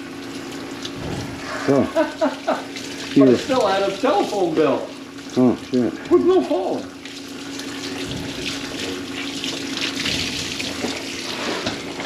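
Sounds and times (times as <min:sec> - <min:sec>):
faucet water running into sink: 0:00.0 - 0:12.0
low steady hum: 0:00.0 - 0:12.0.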